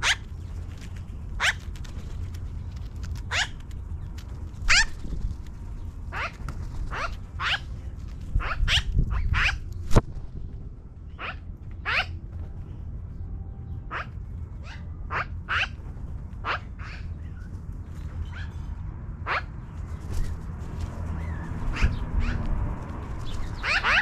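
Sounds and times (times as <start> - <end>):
magpies calling: 0.0 - 5.1, 6.1 - 9.7, 11.1 - 12.2, 13.8 - 20.4, 21.1 - 24.0
steady low rumble: 0.0 - 24.0.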